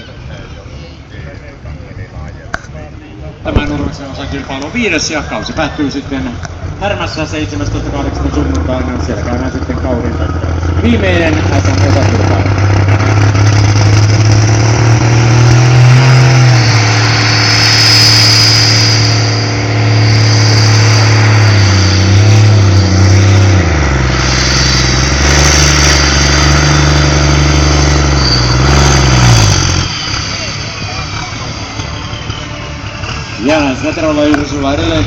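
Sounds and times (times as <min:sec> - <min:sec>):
high whine: 0:00.0 - 0:35.0
tractor engine running loudly: 0:00.0 - 0:35.0.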